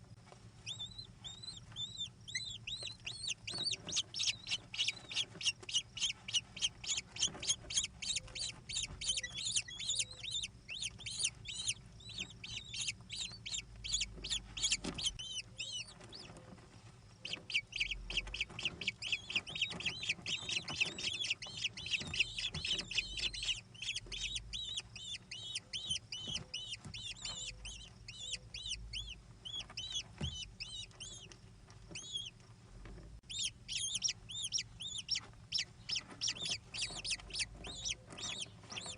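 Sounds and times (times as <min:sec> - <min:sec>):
kestrels calling shrilly: 0:00.7 - 0:16.3, 0:17.3 - 0:31.3, 0:33.3 - 0:38.9.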